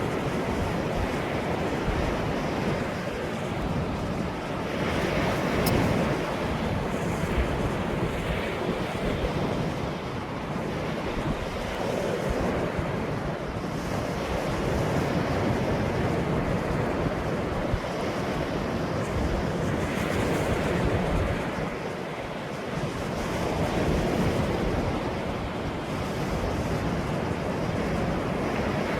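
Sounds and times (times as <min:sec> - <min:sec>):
ocean waves washing ashore: 0:00.0 - 0:28.9
wind buffeting microphone: 0:00.0 - 0:28.9.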